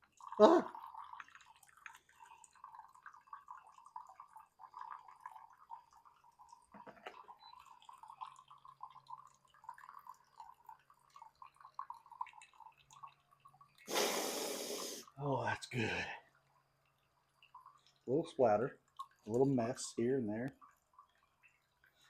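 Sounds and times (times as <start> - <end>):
coffee dripping into a mug: 0.0 - 13.9, 15.6 - 22.0.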